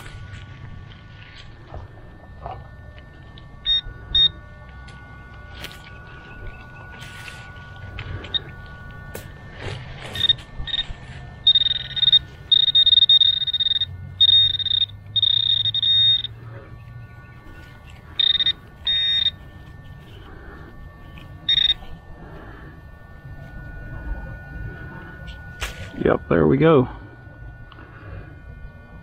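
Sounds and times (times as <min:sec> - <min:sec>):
probe in loose soil: 0:00.0 - 0:26.9
metal detector pinpointer buzzing: 0:00.0 - 0:29.0.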